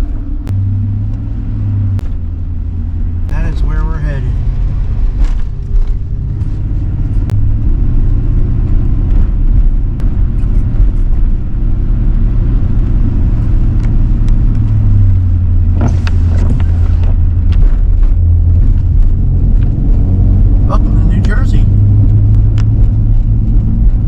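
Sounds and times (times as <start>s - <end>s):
engine and tyre rumble: 0.0s - 24.0s.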